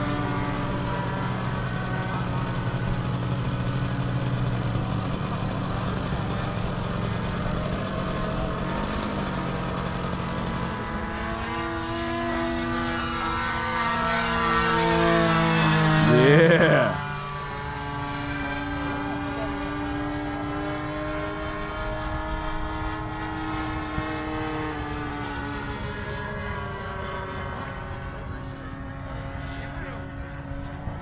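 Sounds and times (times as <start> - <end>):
model airplane motors droning: 0.0 - 31.0.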